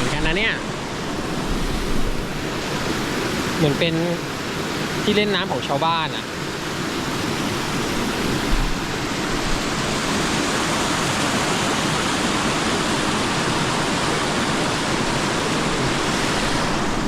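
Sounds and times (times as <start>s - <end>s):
water rushing over rapids: 0.0s - 17.0s.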